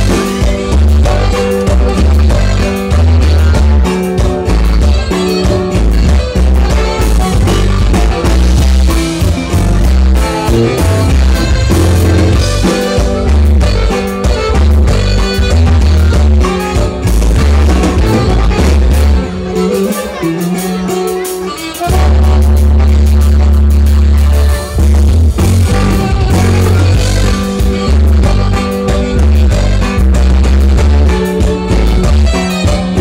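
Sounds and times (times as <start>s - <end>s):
pulsing bass line: 0.0s - 20.6s, 21.9s - 33.0s
live band playing dance music: 0.0s - 33.0s.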